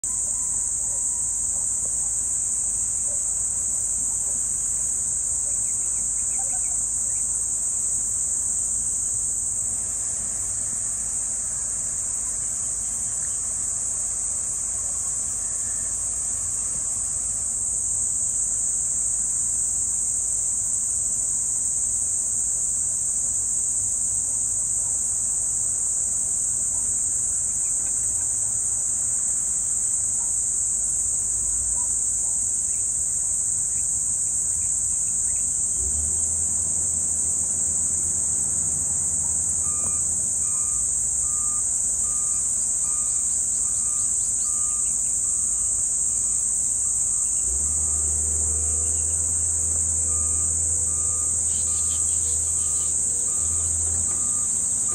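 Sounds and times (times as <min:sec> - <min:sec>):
shrill insect chorus: 0:00.0 - 0:54.9.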